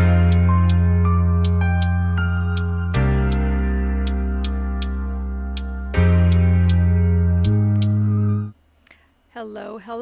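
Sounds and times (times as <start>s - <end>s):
held low chord: 0.0s - 8.5s.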